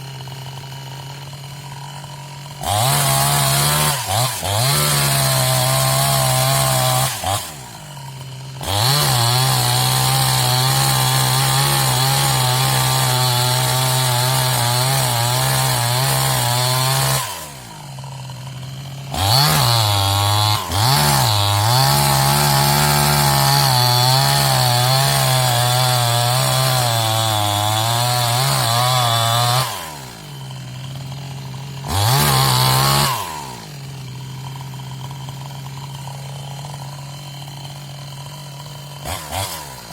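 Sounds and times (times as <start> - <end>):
chainsaw cutting at full throttle: 0.0 - 39.9
chainsaw idling: 0.0 - 39.9.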